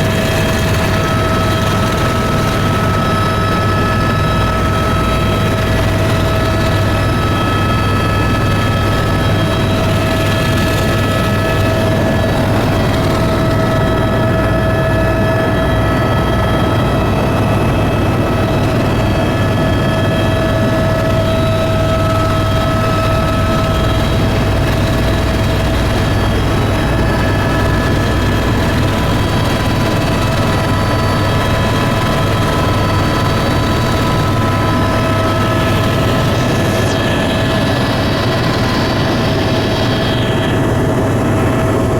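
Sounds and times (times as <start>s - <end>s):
steady high-pitched tones: 0.0s - 41.8s
aircraft engine drone: 0.0s - 41.9s.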